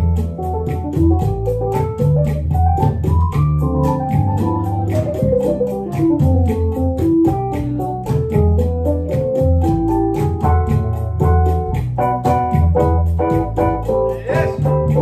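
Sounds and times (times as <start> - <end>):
organ-like keyboard solo: 0.0 - 15.0
upright bass: 0.0 - 15.0.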